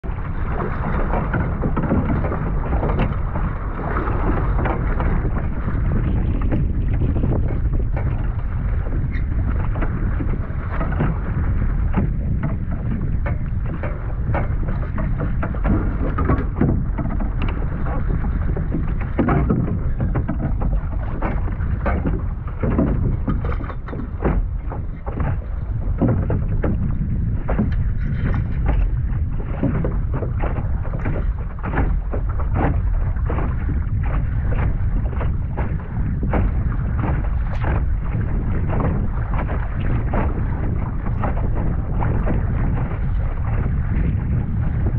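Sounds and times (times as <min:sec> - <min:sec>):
short knocks and splashes: 0:00.0 - 0:44.9
water lapping against hull: 0:00.0 - 0:44.9
wind rumbling on microphone: 0:00.0 - 0:44.9.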